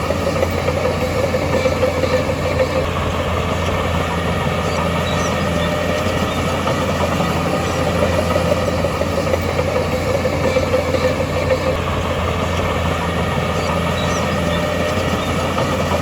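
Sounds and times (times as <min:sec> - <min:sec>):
heavy machinery diesel engine: 0:00.0 - 0:16.0.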